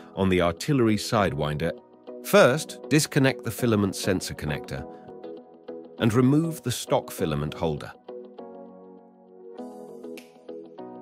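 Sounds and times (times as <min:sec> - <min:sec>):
sustained instrumental music: 0:00.0 - 0:11.0.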